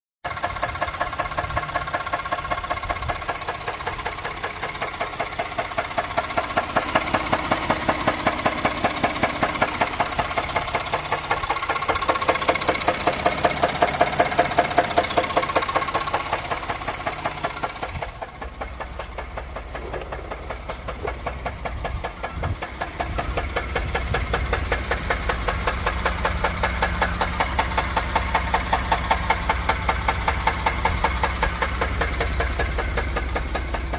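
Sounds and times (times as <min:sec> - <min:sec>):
engine knocking rhythmically: 0:00.2 - 0:33.9.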